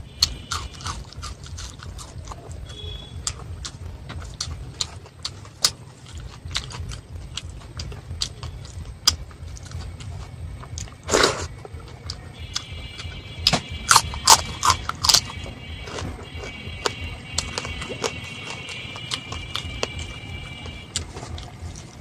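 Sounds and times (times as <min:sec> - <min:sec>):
loud crunchy bites: 0:00.0 - 0:22.0
chewing with wet mouth clicks: 0:00.1 - 0:22.0.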